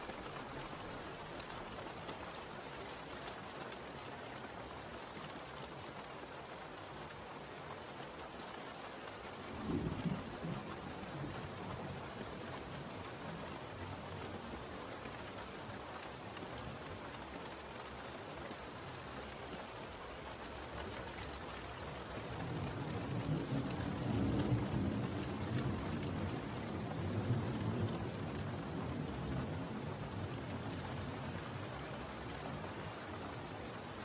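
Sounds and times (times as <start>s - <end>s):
steady rain hissing: 0.0s - 34.0s.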